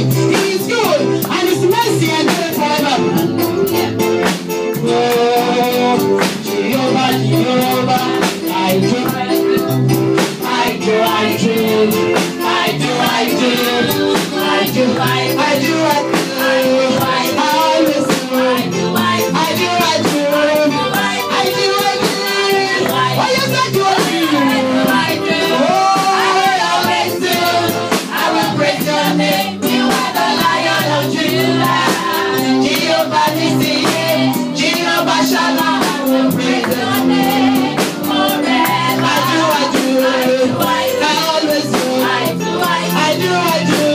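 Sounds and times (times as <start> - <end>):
band playing praise music: 0.0 - 43.9
voices singing: 0.0 - 43.9.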